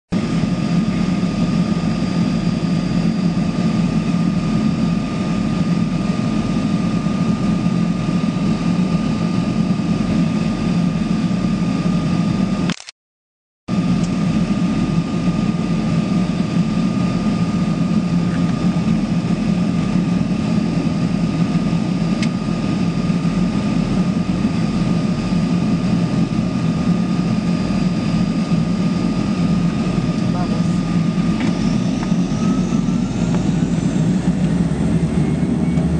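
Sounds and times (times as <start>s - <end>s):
propeller aircraft engines droning: 0.1s - 12.8s, 13.7s - 35.9s.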